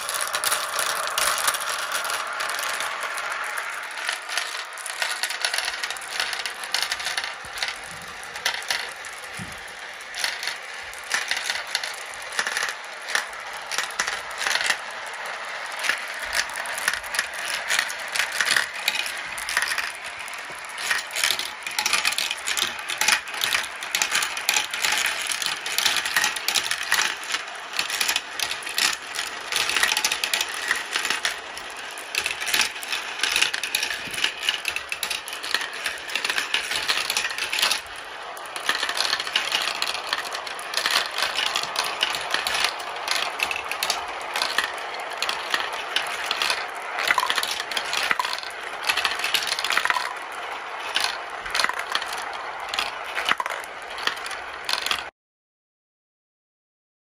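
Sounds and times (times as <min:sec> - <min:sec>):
glass marbles clattering: 0:00.0 - 0:55.1.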